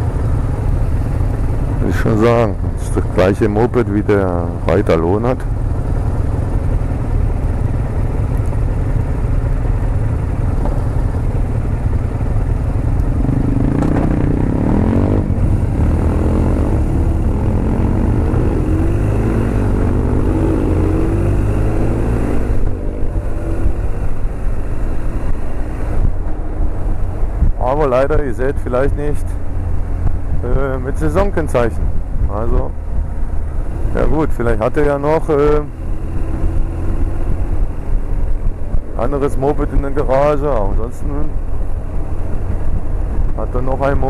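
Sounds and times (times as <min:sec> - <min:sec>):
motorcycle engines idling: 0:00.0 - 0:20.6, 0:22.6 - 0:44.0
motorcycle engines revving: 0:00.0 - 0:44.0.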